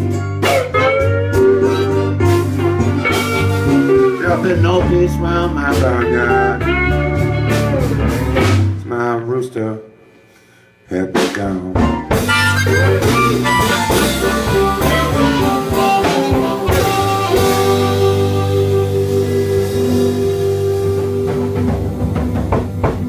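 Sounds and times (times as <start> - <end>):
blues band playing: 0.0 - 9.4, 10.3 - 23.0.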